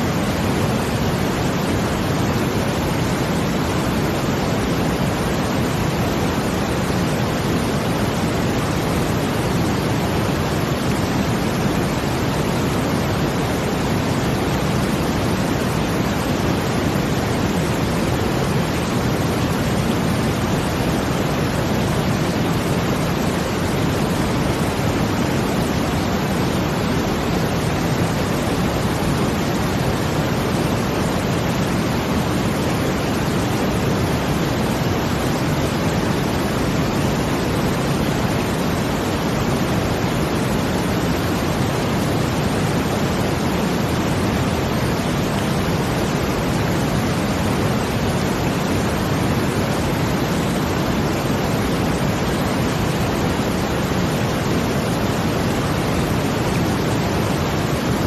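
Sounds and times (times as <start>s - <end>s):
brown noise: 0.0s - 58.0s
rushing water: 0.0s - 58.0s.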